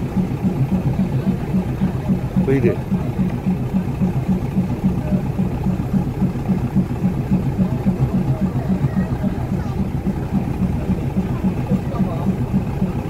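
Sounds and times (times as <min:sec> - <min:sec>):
diesel train engine idling: 0:00.0 - 0:13.0.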